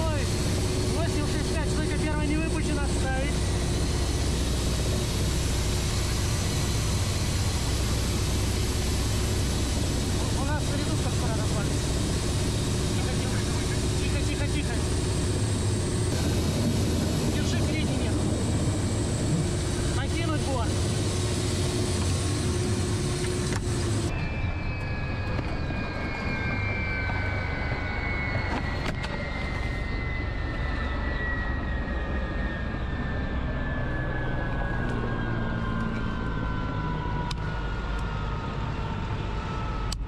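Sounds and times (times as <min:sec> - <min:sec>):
steady higher tone: 0:00.0 - 0:38.8
low rumble: 0:00.0 - 0:40.0
turbine whine winding down: 0:00.0 - 0:40.0.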